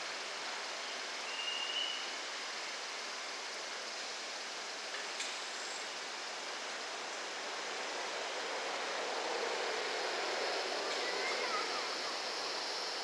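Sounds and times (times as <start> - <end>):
freight train rolling hiss: 0.0 - 13.0.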